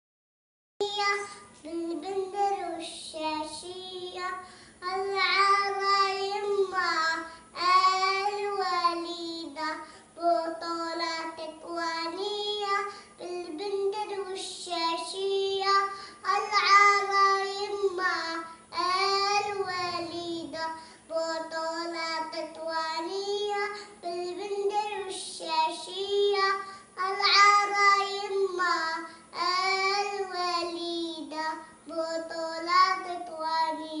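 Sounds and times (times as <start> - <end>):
girl singing unaccompanied: 0.8 - 34.0.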